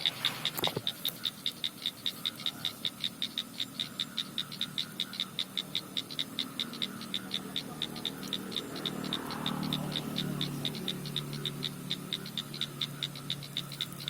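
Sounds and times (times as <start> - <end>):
animal high chirps: 0.0 - 14.0.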